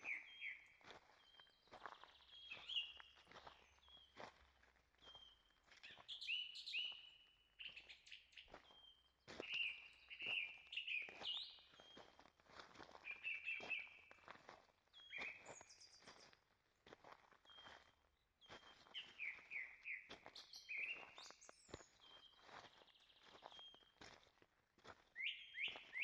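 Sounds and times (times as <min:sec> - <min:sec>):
footsteps on forest trail: 0:00.0 - 0:26.0
songbirds chirping: 0:00.0 - 0:26.0.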